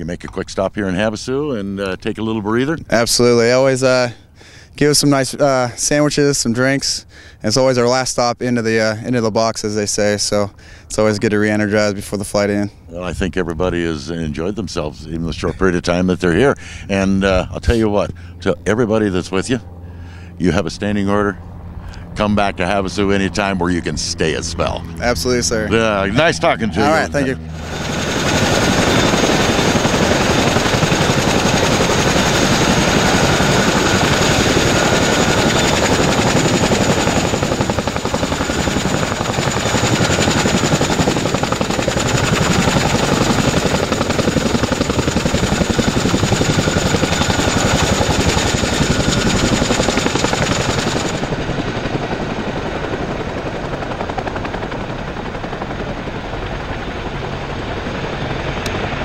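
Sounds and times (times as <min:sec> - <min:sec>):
duller helicopter running: 0:00.0 - 0:59.0
helicopter rotor chop: 0:00.0 - 0:59.0
turbine whine: 0:00.0 - 0:59.0.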